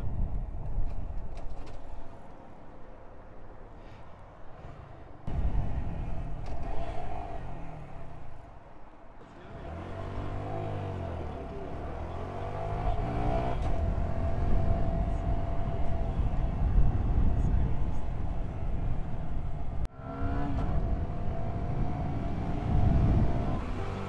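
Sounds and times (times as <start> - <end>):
low wind rumble: 0.0 - 24.0
motorcycle engine shifting gears: 4.6 - 24.0.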